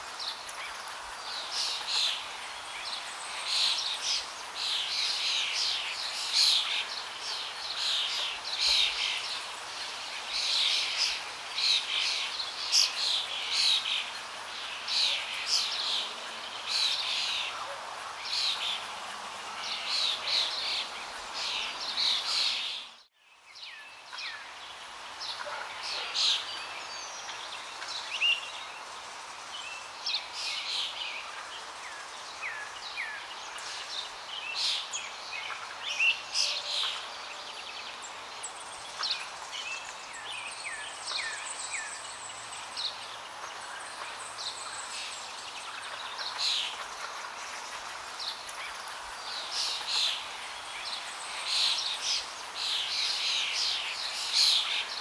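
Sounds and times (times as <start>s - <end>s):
small birds chirping: 0.0s - 55.0s
steady background hiss: 0.0s - 55.0s.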